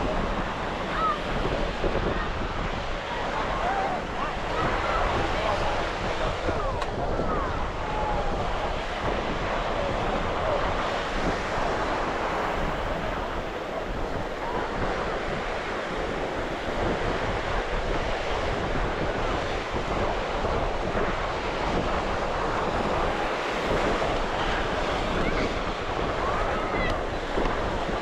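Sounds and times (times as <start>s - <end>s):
ocean surf breaking: 0.0s - 28.0s
wind buffeting microphone: 0.0s - 28.0s.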